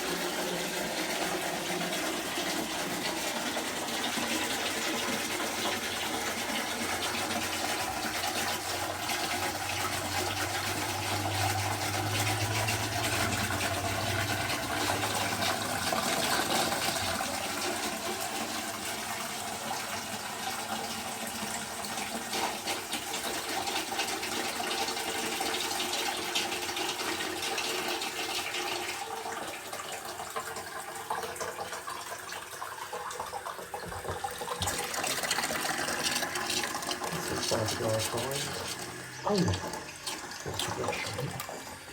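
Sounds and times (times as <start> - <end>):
cistern refilling with water: 0.0 - 41.9.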